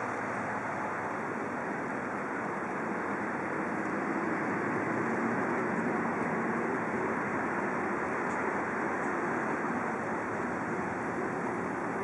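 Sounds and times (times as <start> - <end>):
bus engine hum passing: 0.0 - 12.0
city traffic noise: 0.0 - 12.0.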